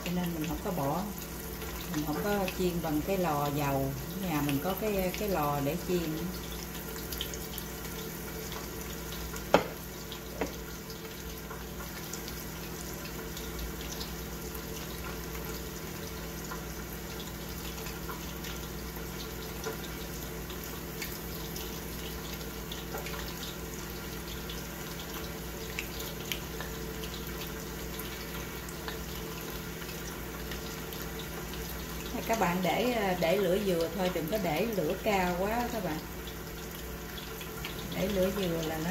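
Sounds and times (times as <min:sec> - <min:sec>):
oil sizzling and bubbling: 0:00.0 - 0:38.9.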